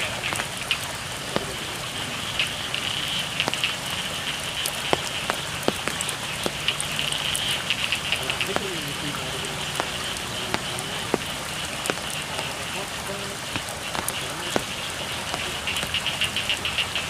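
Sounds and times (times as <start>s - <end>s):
drops landing close by: 0.0s - 17.0s
frogs chorus: 0.0s - 17.0s
steady rain: 0.0s - 17.0s.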